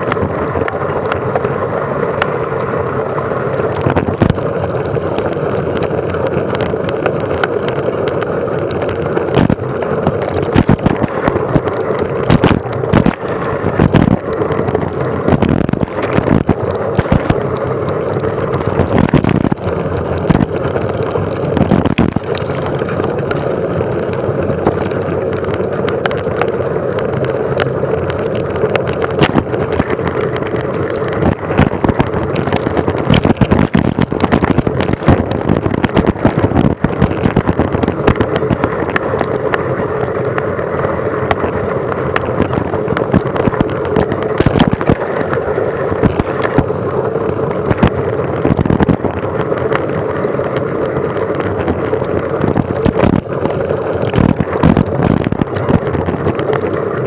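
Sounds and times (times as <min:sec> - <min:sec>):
wind rushing on microphone: 0:00.0 - 0:57.0
bike knocks and rattles: 0:03.8 - 0:57.0.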